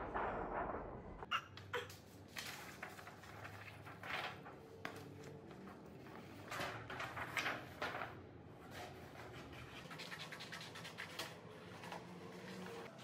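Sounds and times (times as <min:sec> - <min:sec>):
paper rustling and crackling: 0:01.9 - 0:13.0.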